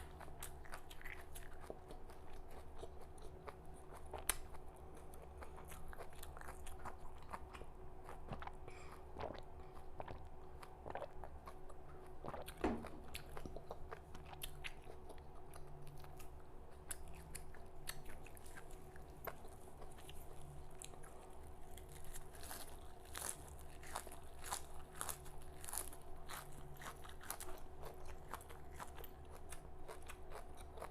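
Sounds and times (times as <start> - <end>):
crunching leaves while chewing: 0.0 - 30.9.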